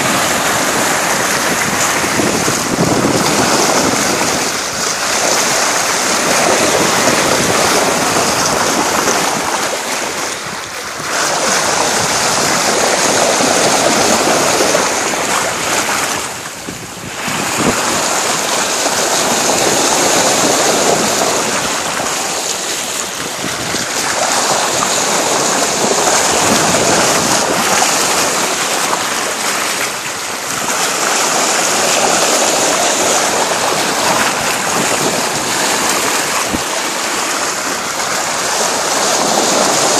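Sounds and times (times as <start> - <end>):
water rushing along a hull: 0.0 - 39.9
wind on microphone: 0.0 - 39.9.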